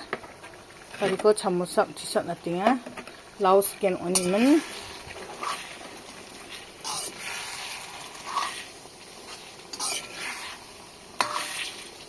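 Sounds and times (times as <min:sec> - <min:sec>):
curry sizzling in a pan: 0:00.0 - 0:12.0
utensil sounds: 0:00.0 - 0:12.0.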